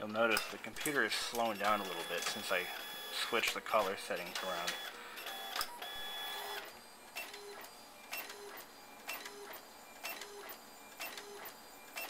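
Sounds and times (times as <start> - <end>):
inkjet printer printing: 0.0 - 12.0.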